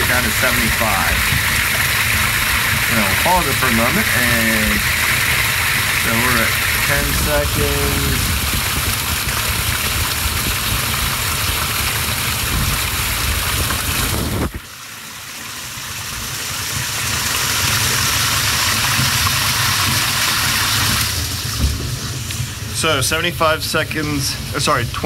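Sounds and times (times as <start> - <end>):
water gushing from pipe: 0.0 - 25.0.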